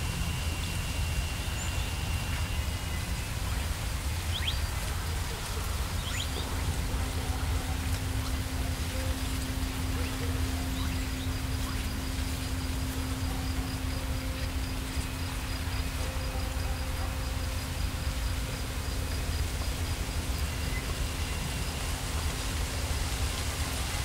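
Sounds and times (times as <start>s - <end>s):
high pulsing cricket trill: 0.0s - 24.0s
low insect buzz: 0.0s - 24.0s
low wind rumble: 0.0s - 24.0s
wind through plants: 0.0s - 24.0s.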